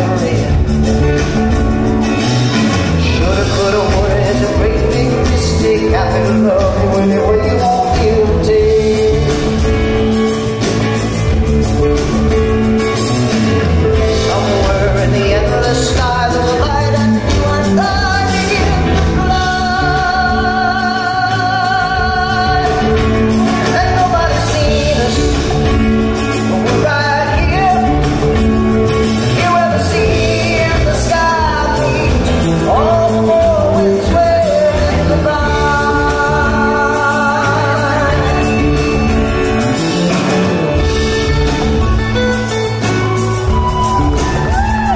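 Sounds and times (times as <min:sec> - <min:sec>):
person singing: 0:00.0 - 0:01.8, 0:02.6 - 0:11.0, 0:12.2 - 0:44.9
acoustic guitar: 0:00.0 - 0:44.9
congas: 0:00.0 - 0:44.9
drum kit: 0:00.0 - 0:44.9
electric bass: 0:00.0 - 0:44.9.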